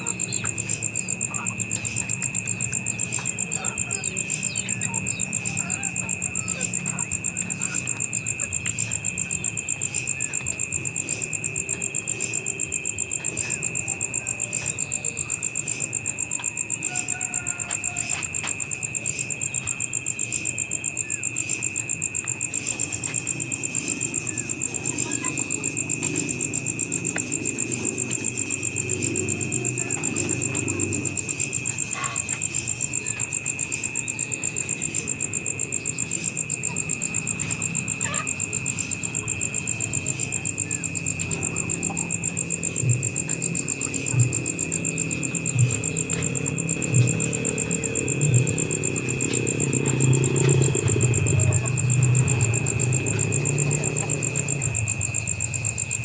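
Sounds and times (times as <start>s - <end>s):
high-pitched insect drone: 0.0s - 56.0s
insects pulsing chirp: 0.0s - 56.0s.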